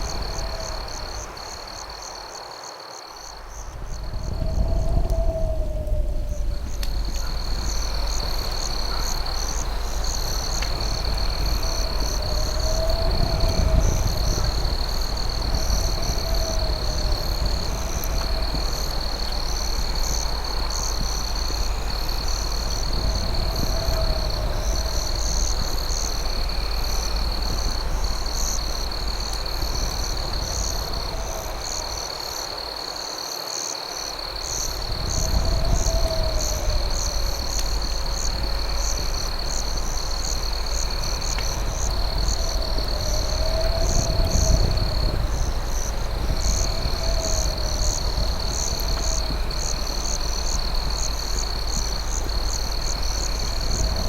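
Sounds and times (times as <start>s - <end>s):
crickets trilling: 0.0s - 54.0s
low warbling insect call: 0.0s - 54.0s.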